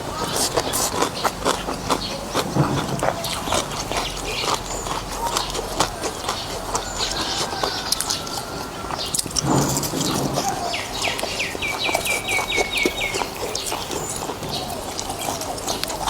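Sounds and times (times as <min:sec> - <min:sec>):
slurping and chewing noodles: 0:00.0 - 0:16.0
bird chirping: 0:00.1 - 0:16.0.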